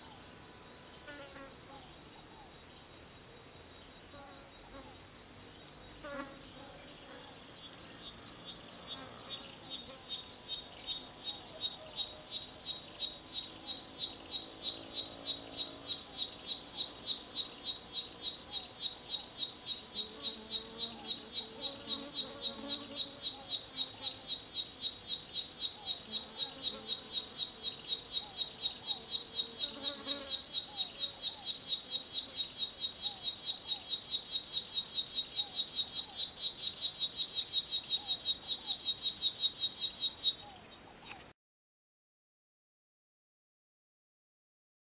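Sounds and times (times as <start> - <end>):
cicada pulsing buzz: 0.0 - 40.5.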